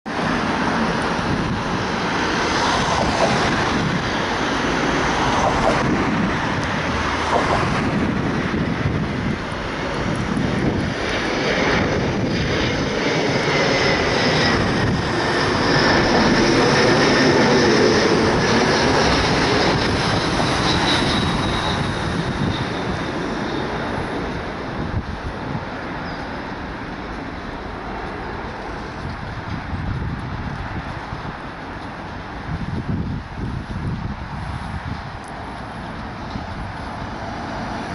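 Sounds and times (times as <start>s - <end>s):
jet airliner landing: 0.1s - 37.9s
jet engine whine: 0.1s - 37.9s.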